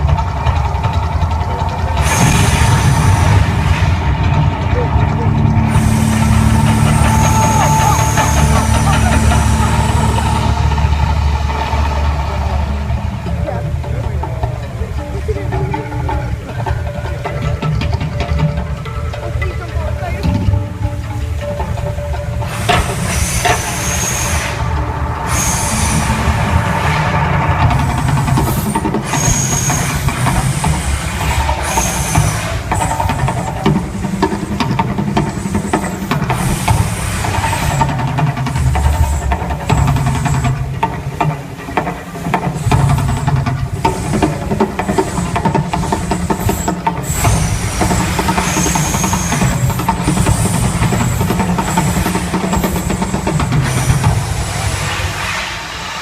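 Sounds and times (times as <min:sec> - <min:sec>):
deep continuous rumble: 0:00.0 - 0:56.0
bursts of hiss: 0:02.0 - 0:13.2, 0:22.4 - 0:56.0.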